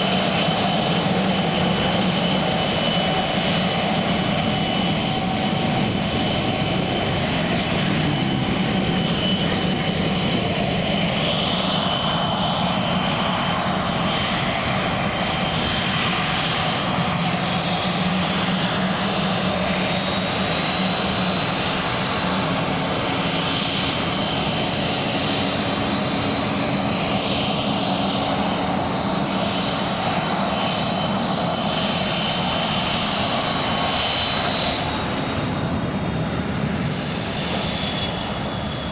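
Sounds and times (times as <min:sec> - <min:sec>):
airplane engine running with whine: 0:00.0 - 0:38.9.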